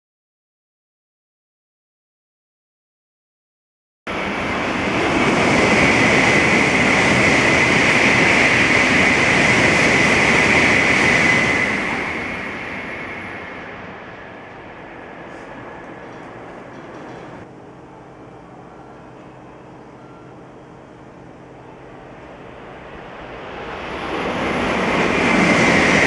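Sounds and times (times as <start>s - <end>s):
high-speed train rushing past: 4.1s - 26.0s.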